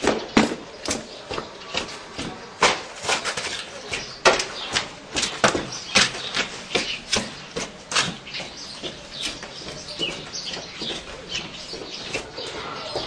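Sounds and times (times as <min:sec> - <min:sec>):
footsteps on wet cobblestones: 0:00.0 - 0:13.0
small birds chirping: 0:00.0 - 0:13.0.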